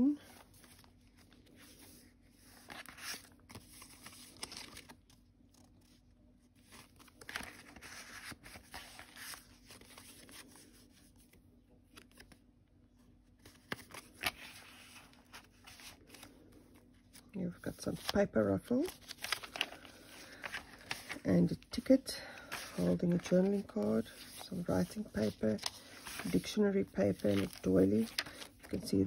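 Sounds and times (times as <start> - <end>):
paper rustling and crinkling: 0.0 - 12.5, 13.2 - 29.0.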